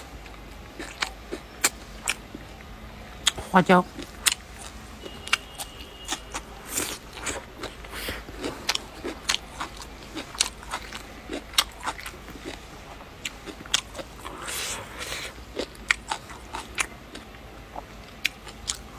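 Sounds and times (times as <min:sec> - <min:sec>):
person chewing food: 0:00.0 - 0:18.9.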